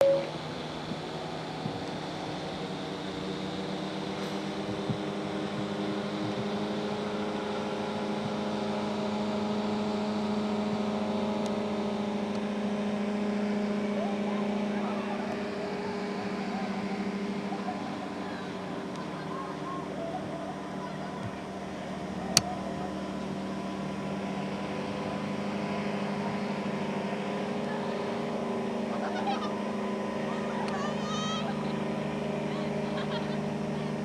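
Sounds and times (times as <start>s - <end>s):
rotary engines droning: 0.0s - 34.0s.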